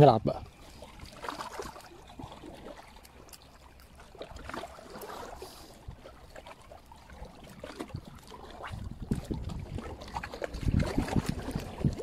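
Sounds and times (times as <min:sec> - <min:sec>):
seawater lapping between rocks: 0:00.0 - 0:12.0
small splashes: 0:00.5 - 0:12.0.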